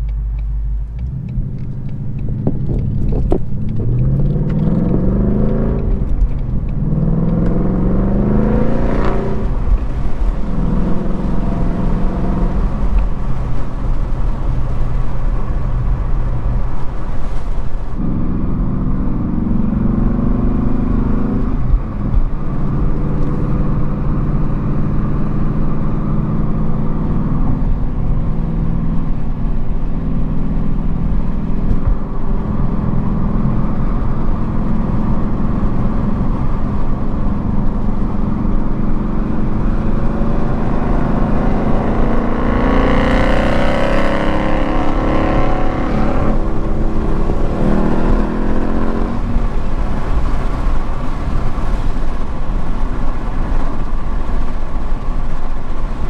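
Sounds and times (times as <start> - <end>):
car engine droning in cabin: 0.0 - 56.0.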